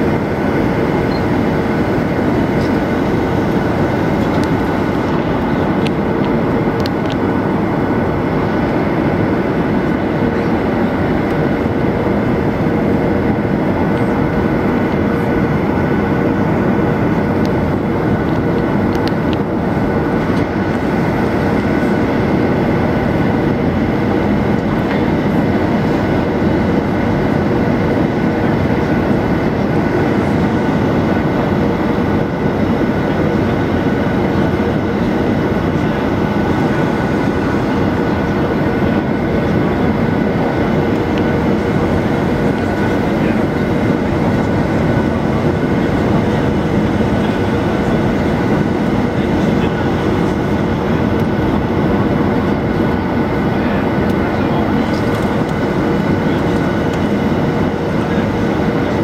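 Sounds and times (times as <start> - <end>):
jet engine hum: 0.0 - 59.0
rushing airflow: 0.0 - 59.0.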